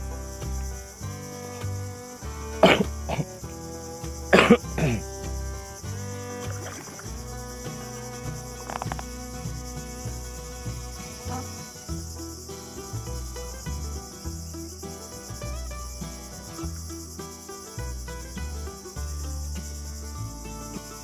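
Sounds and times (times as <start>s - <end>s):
background music with bass line: 0.0s - 21.0s
high-pitched insect chorus: 0.0s - 21.0s.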